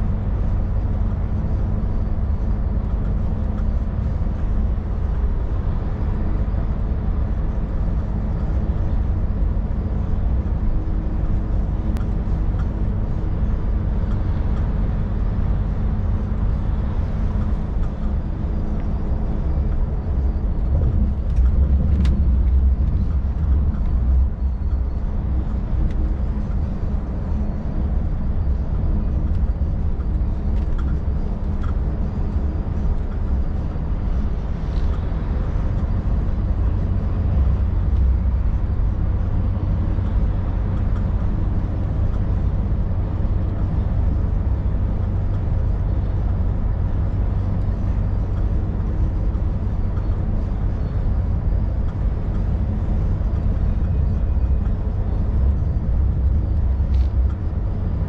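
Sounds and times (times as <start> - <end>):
road noise: 0.0 - 58.0
truck diesel engine droning: 0.0 - 58.0.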